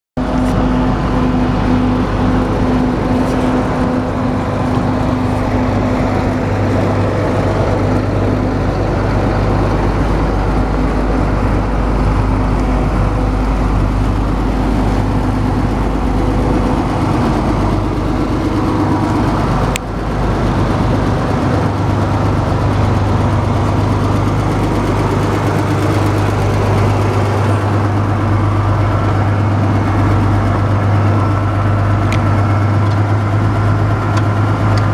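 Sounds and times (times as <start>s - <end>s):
combine diesel engine drone: 0.2s - 34.9s.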